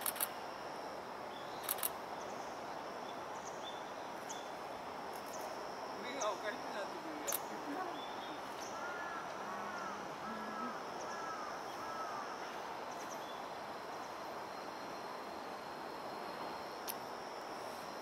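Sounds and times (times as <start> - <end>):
insects trilling: 0.0 - 18.0
outdoor ambient noise: 0.0 - 18.0.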